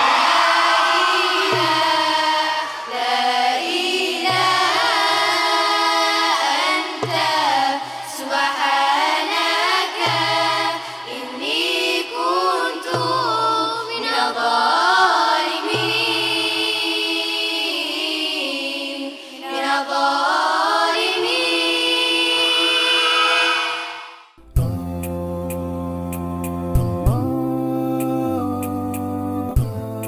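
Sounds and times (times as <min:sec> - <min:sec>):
girls' choir singing: 0:00.0 - 0:24.2.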